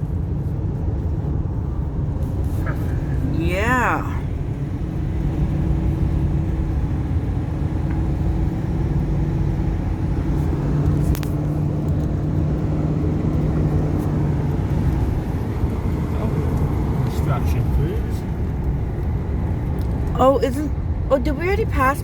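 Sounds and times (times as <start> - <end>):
van engine and road drone: 0.0 - 22.0.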